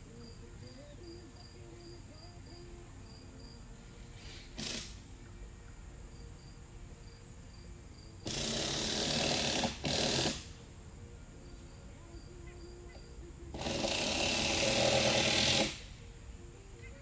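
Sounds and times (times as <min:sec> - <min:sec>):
crickets chirping: 0:00.0 - 0:17.0
insect buzz: 0:00.0 - 0:17.0.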